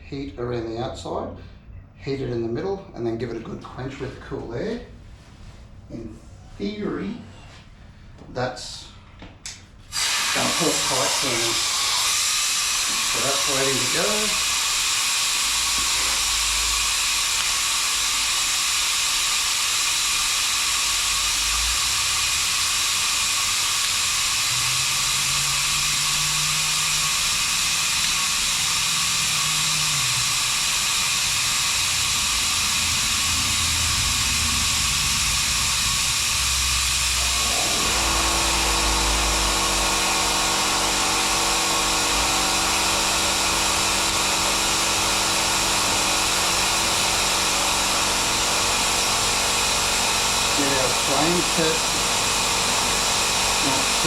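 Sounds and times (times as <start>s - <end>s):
gas torch hissing: 9.9s - 54.0s.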